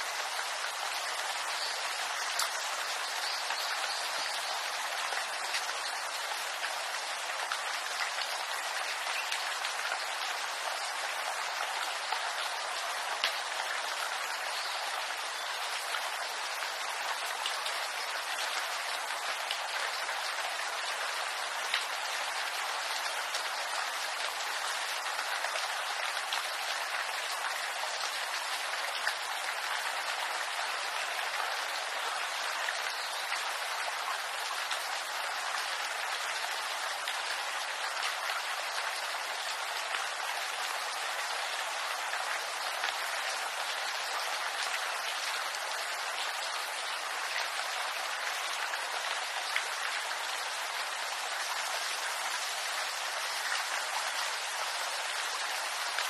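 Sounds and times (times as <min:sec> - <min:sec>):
rain on bamboo leaves: 0:00.0 - 0:56.0.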